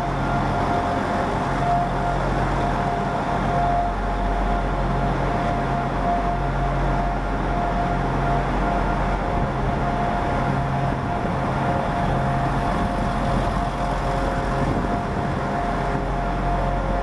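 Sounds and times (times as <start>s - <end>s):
diesel train engines idling: 0.0s - 17.0s.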